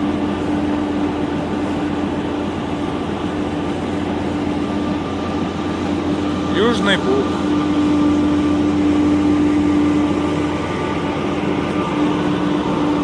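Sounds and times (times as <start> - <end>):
ship engine droning: 0.0 - 13.0.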